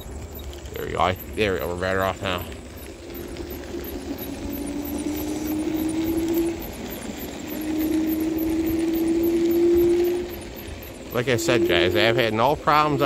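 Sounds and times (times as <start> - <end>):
electric scooter motor whining: 0.0 - 13.0
low rumble: 0.0 - 13.0.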